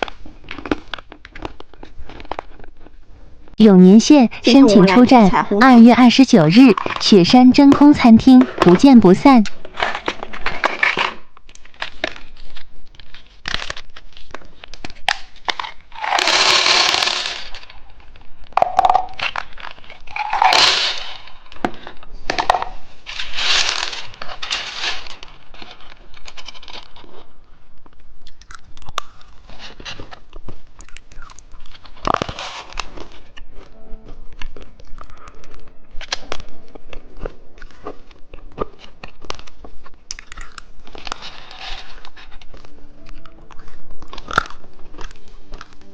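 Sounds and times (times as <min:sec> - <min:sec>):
hard candy crunching: 0:00.0 - 0:03.0, 0:09.6 - 0:45.9
plastic wrappers crinkling and tearing: 0:00.0 - 0:03.0, 0:06.1 - 0:45.9.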